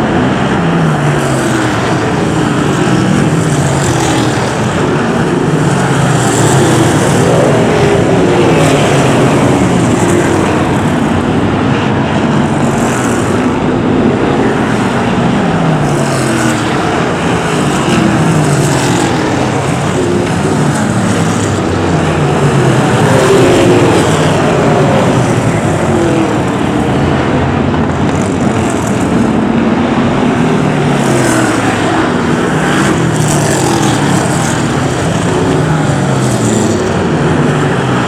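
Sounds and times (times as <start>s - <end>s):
stock car engines racing: 0.0s - 38.0s.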